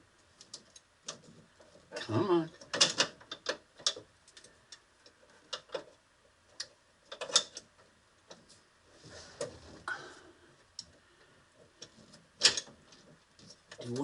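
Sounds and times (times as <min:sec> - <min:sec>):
rustling and scraping: 0:00.2 - 0:09.9, 0:10.9 - 0:14.0.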